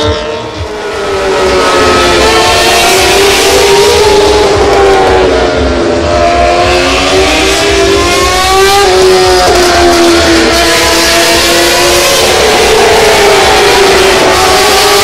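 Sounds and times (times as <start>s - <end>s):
racing motorcycle engines screaming: 0.0s - 15.0s.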